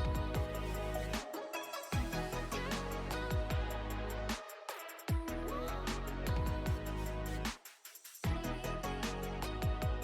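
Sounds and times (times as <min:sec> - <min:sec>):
electronic music with heavy bass: 0:00.0 - 0:01.2, 0:02.0 - 0:07.5, 0:08.3 - 0:10.0.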